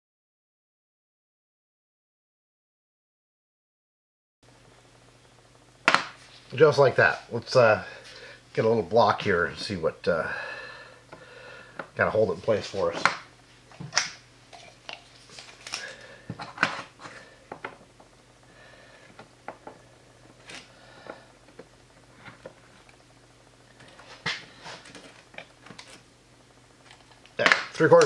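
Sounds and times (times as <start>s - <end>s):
faint steady hum: 4.4s - 28.0s.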